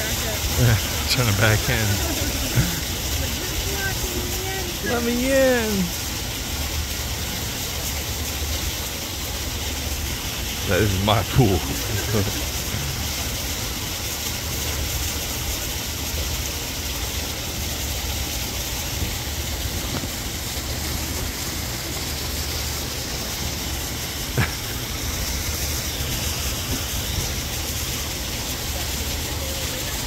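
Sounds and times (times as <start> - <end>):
even hiss: 0.0 - 30.0.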